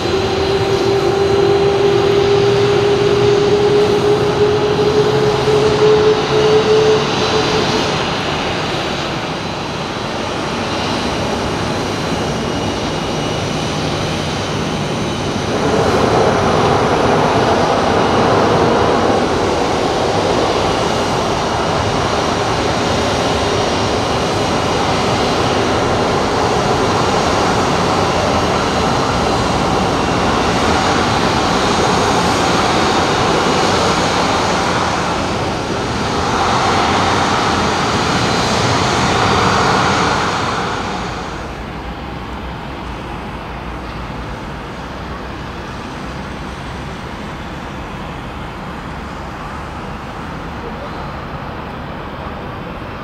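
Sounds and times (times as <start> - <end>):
airport noise: 0.0 - 53.0
jet engines rushing: 0.0 - 53.0.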